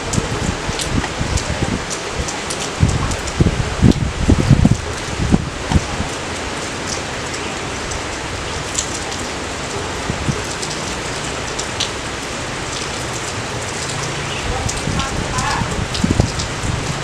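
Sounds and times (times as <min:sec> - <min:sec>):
raindrop ticks: 0:00.0 - 0:17.0
steady rain hiss: 0:00.0 - 0:17.0.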